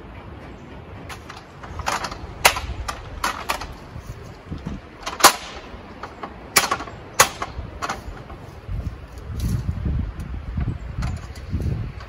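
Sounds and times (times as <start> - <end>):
metal ladder clanking: 1.0 - 9.7, 11.0 - 12.0.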